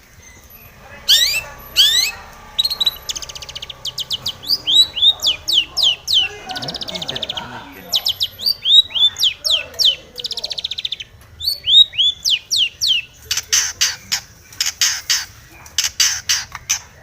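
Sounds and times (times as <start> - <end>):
bird singing buzzy trills and whistles: 0.0 - 17.0.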